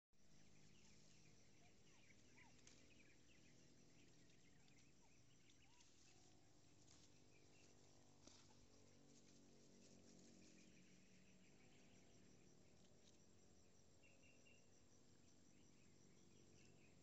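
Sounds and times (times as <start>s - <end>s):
faint bird chirps: 0.2s - 8.9s, 10.4s - 17.0s
steady low hum: 0.2s - 17.0s.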